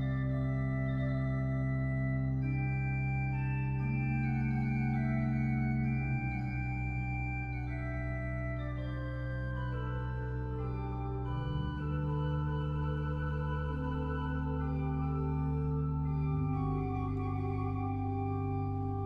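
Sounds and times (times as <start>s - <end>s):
organ playing slow chords: 0.0s - 19.0s.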